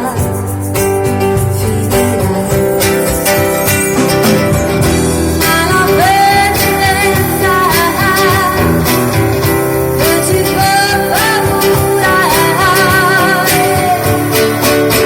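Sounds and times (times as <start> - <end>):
steady drum beat: 0.0 - 15.0
strummed acoustic guitars: 0.0 - 15.0
woman singing with vibrato: 0.0 - 15.0.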